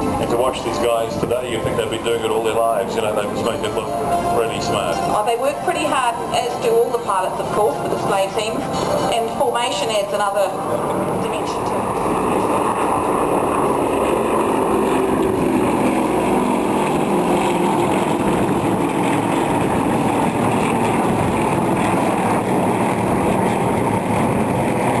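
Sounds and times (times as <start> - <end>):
aircraft engines droning overhead: 0.0 - 25.0.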